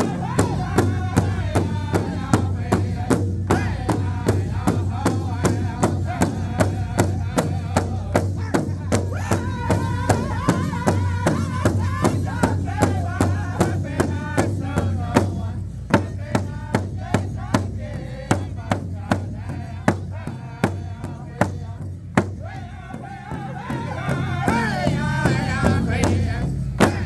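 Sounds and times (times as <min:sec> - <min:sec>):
group singing in high voices: 0:00.0 - 0:27.0
large drum beating steadily: 0:00.0 - 0:27.0.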